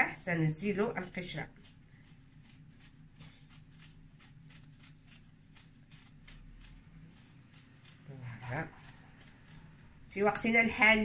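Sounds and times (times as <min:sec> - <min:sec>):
steady low hum: 0:00.0 - 0:11.0
crisp rustling of peel: 0:00.2 - 0:11.0.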